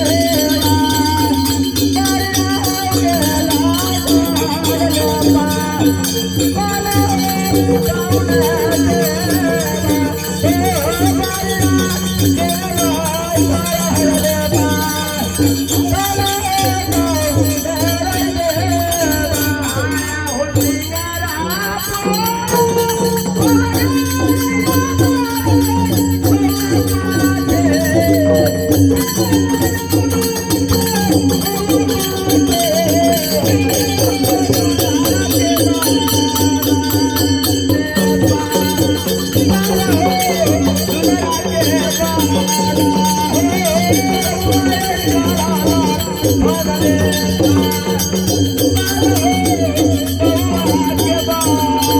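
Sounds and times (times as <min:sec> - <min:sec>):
shaken rattle percussion: 0:00.0 - 0:51.9
wavering melody line: 0:00.0 - 0:51.9.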